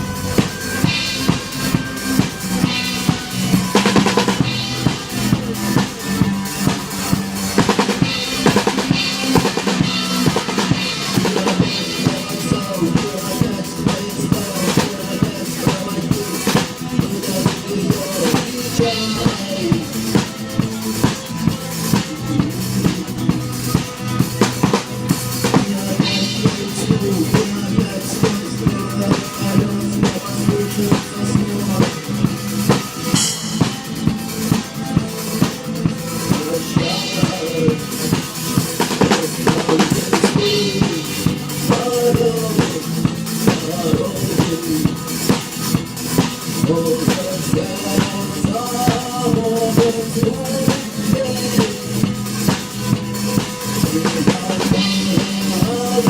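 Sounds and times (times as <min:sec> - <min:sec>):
drum kit beat: 0:00.0 - 0:56.0
rock music: 0:00.0 - 0:56.0.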